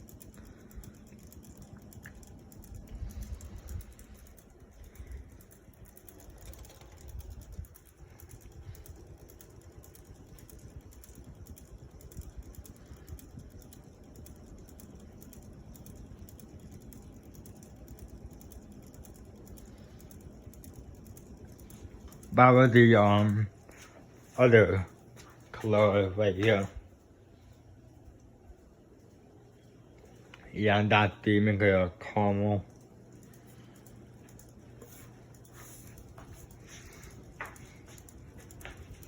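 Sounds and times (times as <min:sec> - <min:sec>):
ceiling fan whirring: 0:00.0 - 0:39.0
light rapid ticking: 0:00.0 - 0:39.0.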